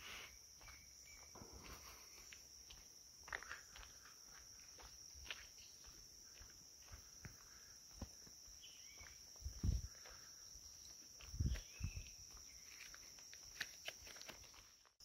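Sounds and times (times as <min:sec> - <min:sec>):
high insect drone: 0:00.0 - 0:14.7
footsteps on a paved road: 0:00.0 - 0:15.0.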